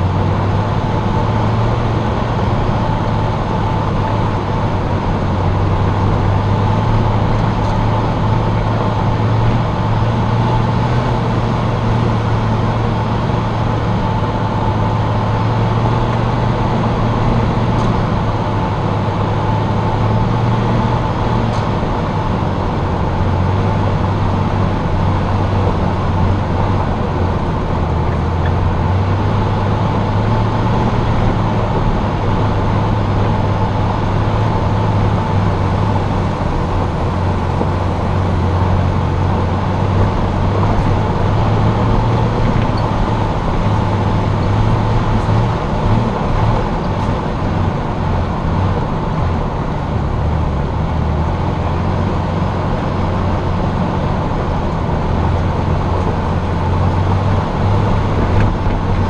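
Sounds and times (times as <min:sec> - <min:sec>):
car engine under load: 0:00.0 - 0:59.0
tyre and road noise: 0:00.0 - 0:59.0.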